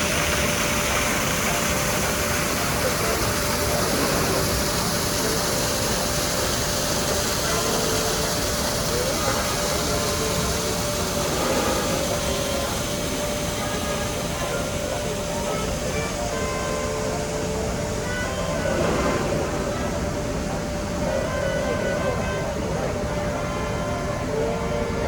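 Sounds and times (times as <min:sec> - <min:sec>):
boat machinery humming: 0:00.0 - 0:25.0
paddlewheel churning water: 0:00.0 - 0:25.0.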